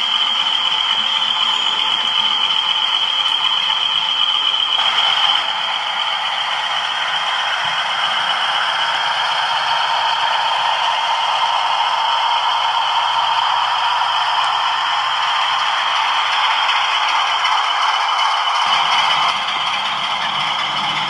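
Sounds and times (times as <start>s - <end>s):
model diesel engine sound: 0.0s - 21.0s
wheels and motors rattling on track: 0.0s - 21.0s.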